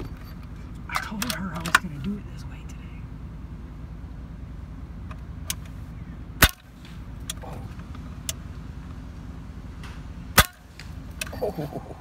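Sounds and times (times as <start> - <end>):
truck idling: 0.0 - 12.0.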